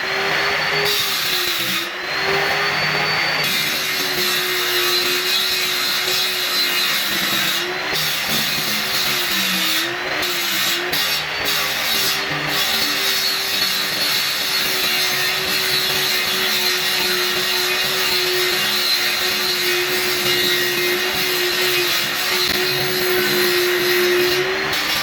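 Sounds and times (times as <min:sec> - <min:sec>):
power tool cutting wood: 0:00.0 - 0:25.0.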